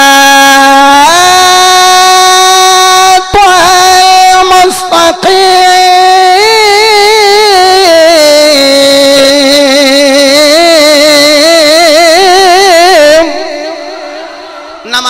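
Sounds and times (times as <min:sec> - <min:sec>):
man chanting a long melodic note: 0:00.0 - 0:15.0.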